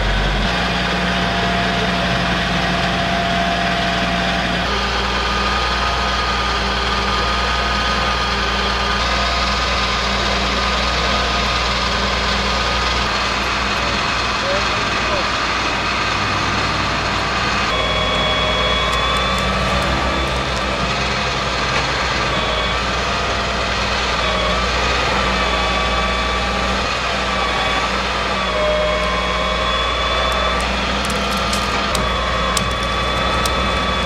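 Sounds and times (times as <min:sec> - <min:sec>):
mechanical whine: 0:00.0 - 0:34.0
truck engine running: 0:00.0 - 0:34.0.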